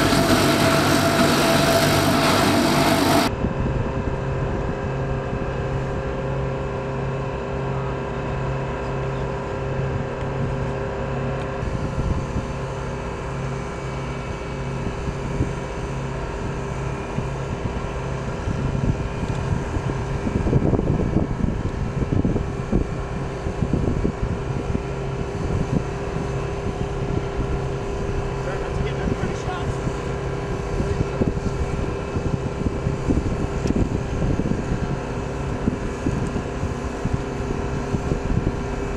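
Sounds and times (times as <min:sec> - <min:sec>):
rough wind noise: 0:00.0 - 0:07.5, 0:09.6 - 0:38.9
machinery engine droning: 0:00.0 - 0:38.9.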